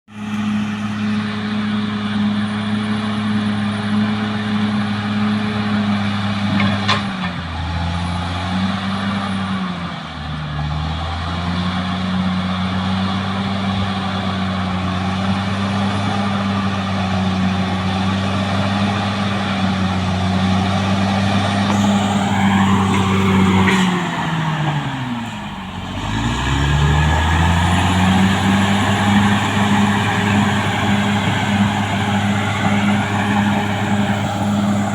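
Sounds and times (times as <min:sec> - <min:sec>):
bulldozer diesel engine: 0:00.1 - 0:34.9.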